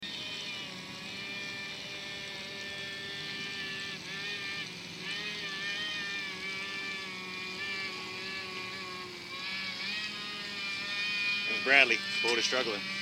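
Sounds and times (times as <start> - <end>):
electric motor high-pitched whine: 0.0 - 13.0.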